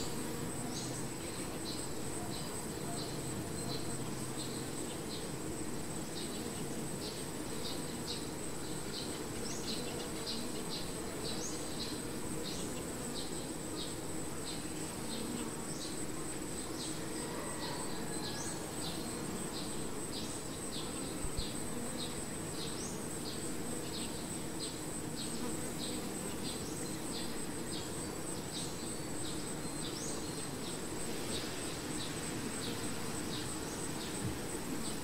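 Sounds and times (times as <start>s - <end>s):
high insect chirps: 0.0s - 35.0s
honey bees buzzing: 0.0s - 35.0s.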